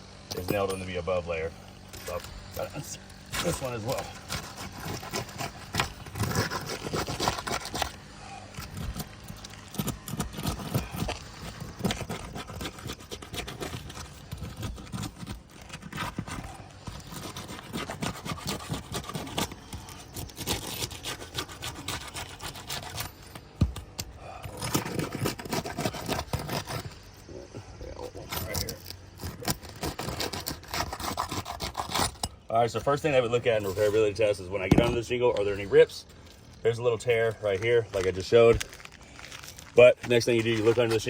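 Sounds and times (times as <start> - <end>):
shingles scraping and crackling: 1.6 - 41.0.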